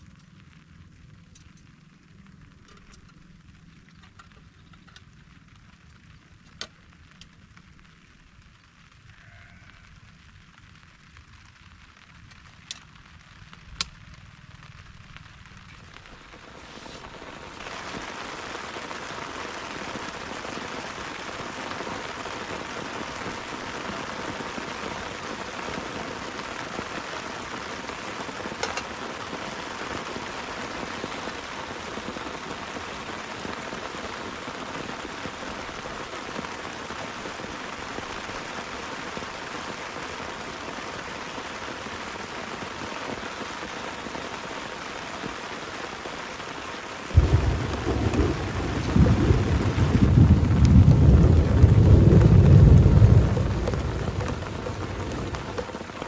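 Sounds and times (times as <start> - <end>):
heavy rain falling: 1.9 - 56.0.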